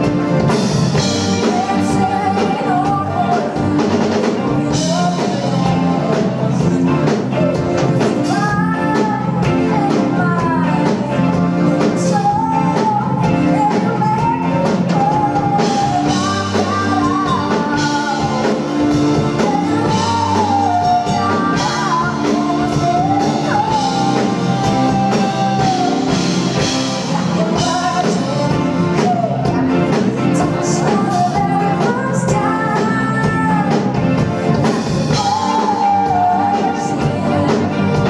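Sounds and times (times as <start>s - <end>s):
drums steady beat: 0.0s - 38.0s
guitar: 0.0s - 38.0s
keyboards: 0.0s - 38.0s
person singing: 0.0s - 38.0s.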